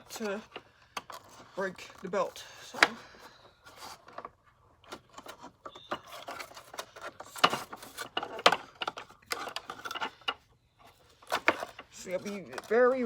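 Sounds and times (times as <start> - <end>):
vacuum cleaner parts clicking: 0.0 - 13.0.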